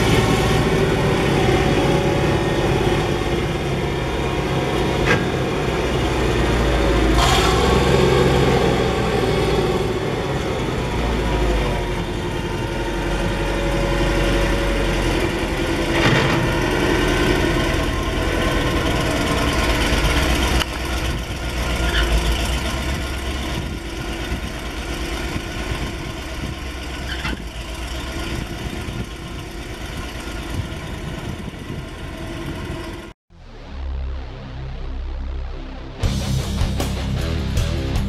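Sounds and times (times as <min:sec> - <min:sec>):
truck engine driving by: 0:00.0 - 0:38.0.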